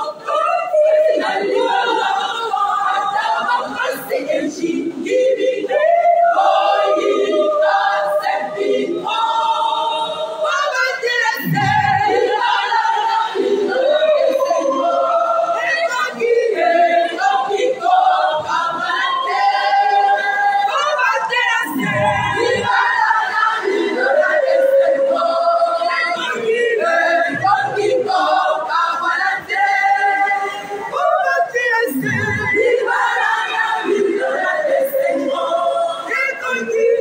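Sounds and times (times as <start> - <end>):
choir singing in harmony: 0.0 - 37.0.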